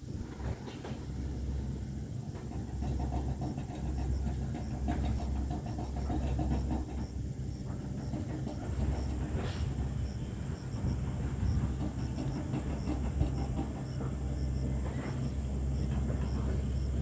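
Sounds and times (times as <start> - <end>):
excavator diesel engine: 0.1 - 17.0.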